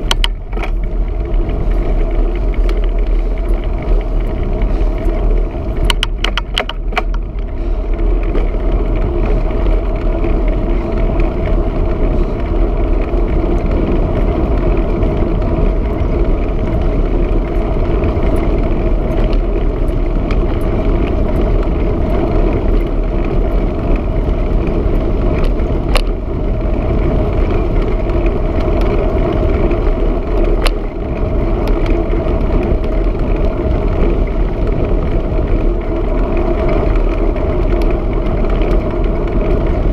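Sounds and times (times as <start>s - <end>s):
rolling road noise: 0.0s - 39.9s
wind rush: 0.0s - 39.9s.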